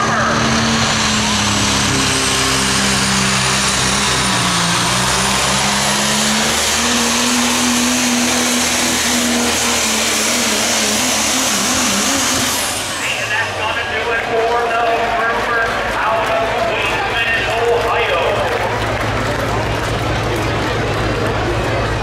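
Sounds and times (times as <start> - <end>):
diesel engine at full throttle: 0.0 - 22.0.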